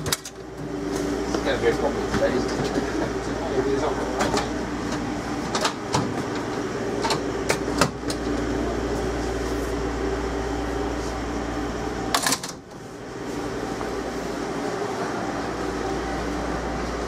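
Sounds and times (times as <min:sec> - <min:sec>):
train equipment hum: 0:00.0 - 0:17.0.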